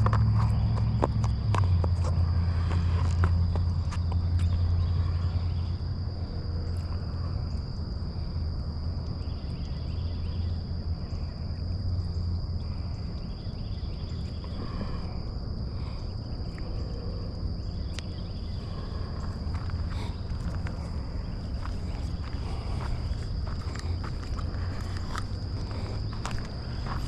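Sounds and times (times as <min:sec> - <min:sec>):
high-pitched insect drone: 0:00.0 - 0:27.0
low rumble: 0:00.0 - 0:27.0.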